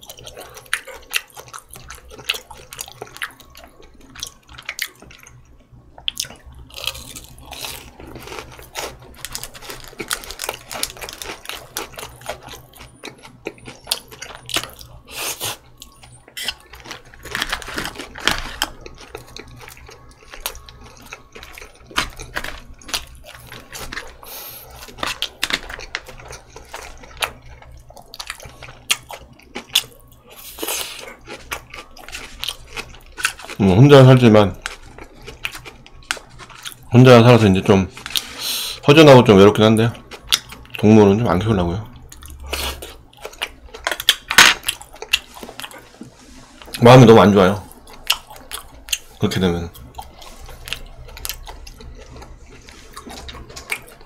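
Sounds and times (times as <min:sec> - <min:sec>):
man chewing food: 0:00.0 - 0:54.0.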